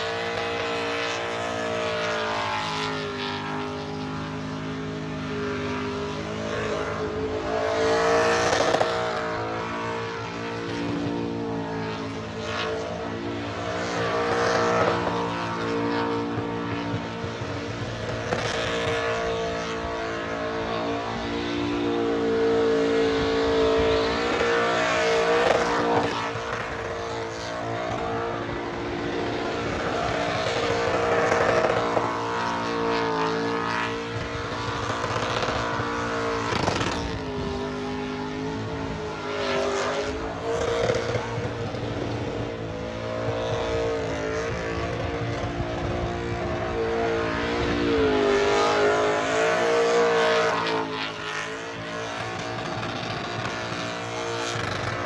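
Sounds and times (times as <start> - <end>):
car engine revving high: 4.6 - 55.0.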